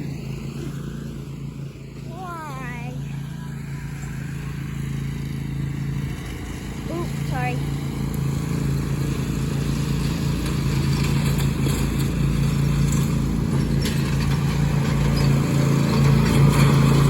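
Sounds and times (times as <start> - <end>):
riding lawn mower engine: 0.0 - 17.0.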